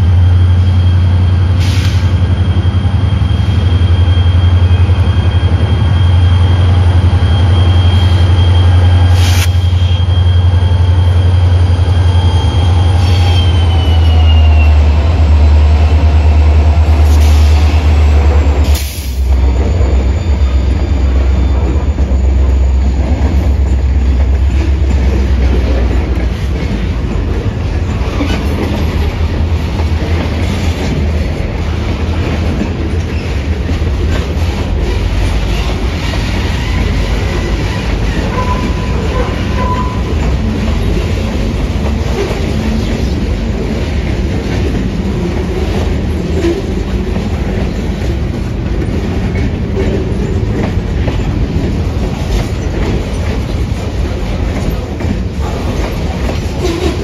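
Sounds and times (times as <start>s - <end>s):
freight train cars rolling past: 0.0s - 57.0s.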